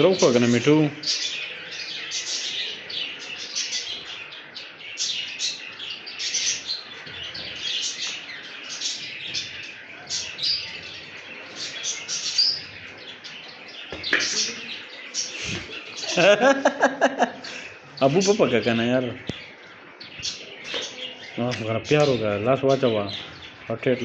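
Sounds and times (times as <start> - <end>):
budgerigars chirping: 0.0 - 24.0.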